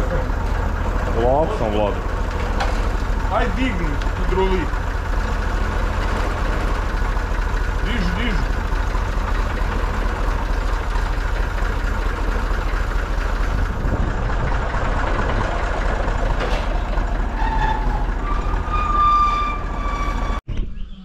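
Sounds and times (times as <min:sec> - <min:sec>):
tractor engine running: 0:00.0 - 0:20.4.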